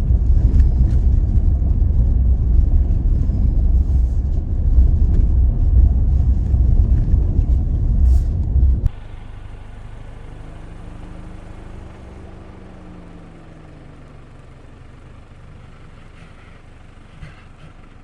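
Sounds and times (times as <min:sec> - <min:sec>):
truck engine and tyres rumbling: 0:00.0 - 0:18.0.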